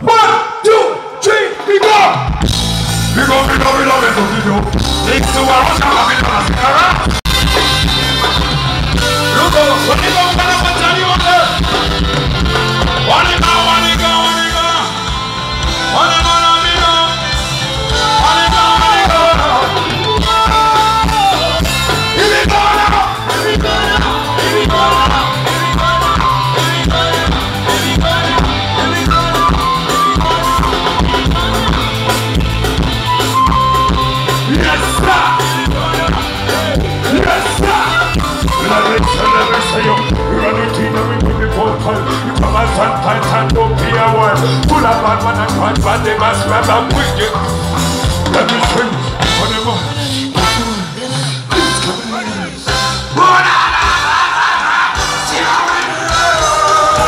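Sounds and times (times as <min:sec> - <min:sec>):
live band playing upbeat song: 0:00.0 - 0:57.0
drum kit beat: 0:02.1 - 0:52.1, 0:52.7 - 0:57.0.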